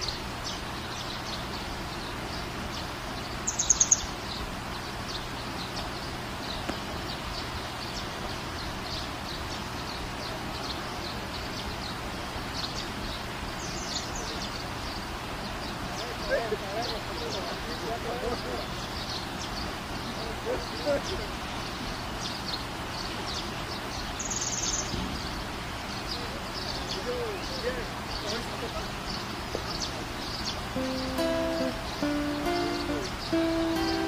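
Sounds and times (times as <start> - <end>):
small birds chirping: 0.0 - 34.0
steady outdoor hiss: 0.0 - 34.0.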